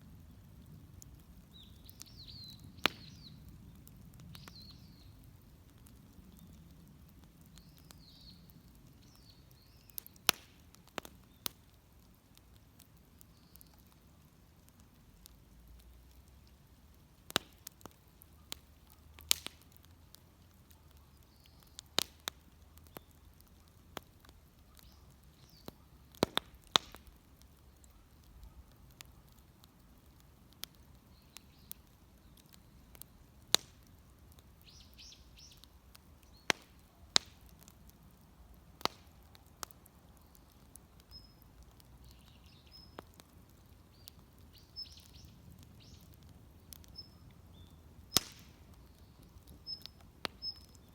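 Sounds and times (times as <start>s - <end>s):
wood fire crackling: 0.0s - 50.9s
faint birds chirping: 0.1s - 38.2s, 38.8s - 50.9s.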